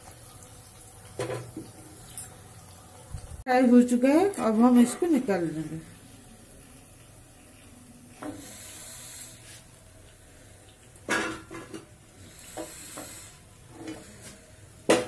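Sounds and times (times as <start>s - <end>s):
faint oil sizzle: 0.0s - 15.0s.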